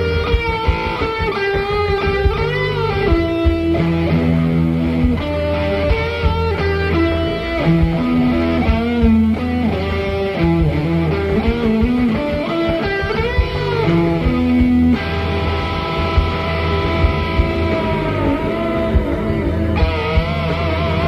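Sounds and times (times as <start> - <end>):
fuzz electric guitar lead: 0.0 - 21.0
steady low guitar note: 0.0 - 21.0.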